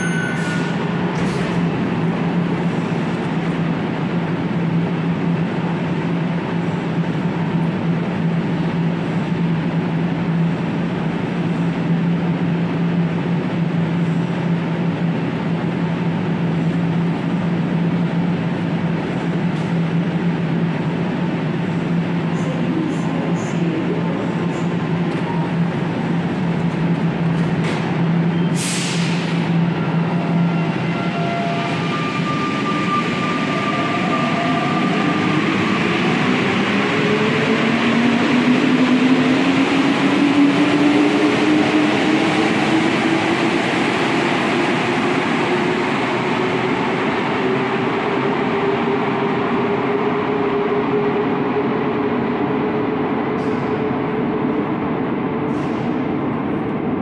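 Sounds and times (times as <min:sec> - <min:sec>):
steady train hum: 0:00.0 - 0:57.0.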